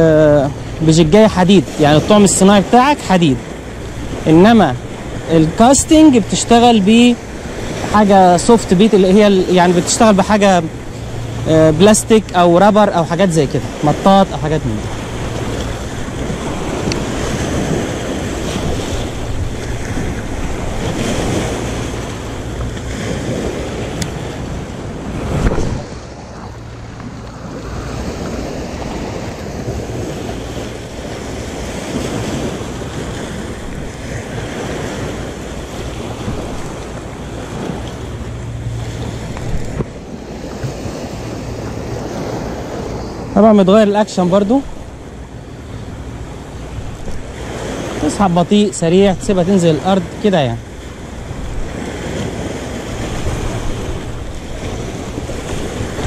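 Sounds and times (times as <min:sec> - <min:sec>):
waves breaking on pebbly shore: 0:00.0 - 0:44.7, 0:46.3 - 0:56.0
wind buffeting microphone: 0:00.0 - 0:56.0.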